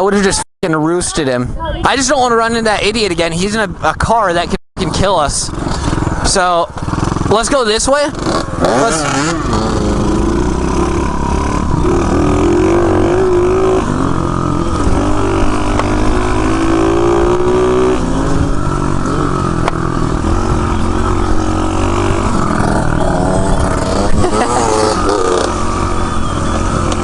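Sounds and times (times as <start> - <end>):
dirt bike engine running: 4.8 - 27.0.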